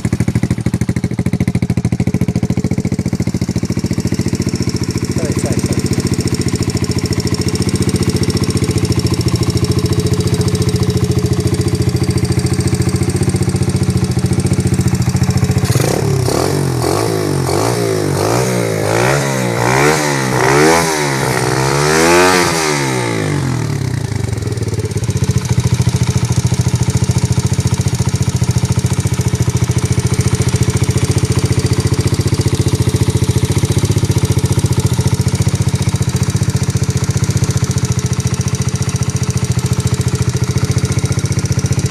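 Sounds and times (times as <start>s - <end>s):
motorbike engine idling and revving: 0.0s - 41.9s.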